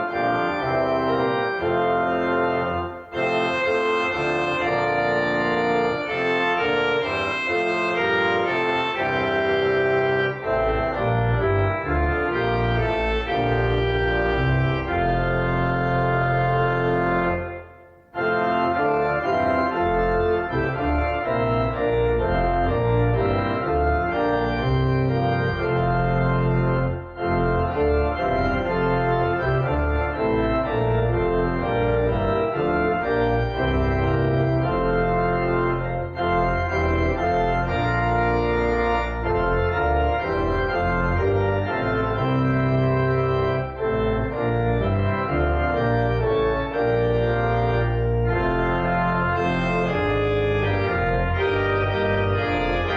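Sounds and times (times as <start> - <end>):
church organ chords: 0.0 - 52.9.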